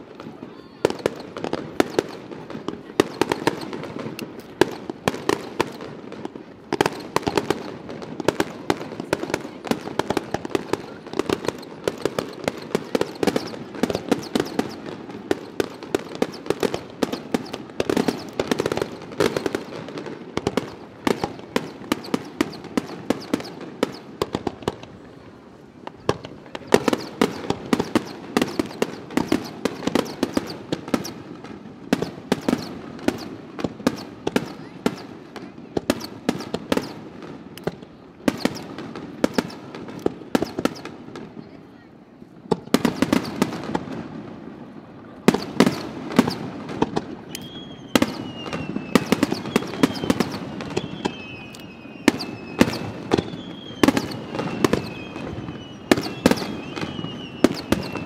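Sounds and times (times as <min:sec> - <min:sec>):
firework shells bursting: 0:00.0 - 0:41.3, 0:42.4 - 0:43.9, 0:45.2 - 0:58.0.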